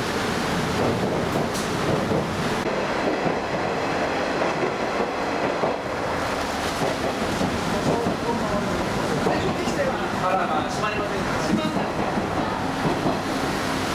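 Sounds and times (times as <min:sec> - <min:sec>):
railcar rumbling along track: 0:00.0 - 0:13.9.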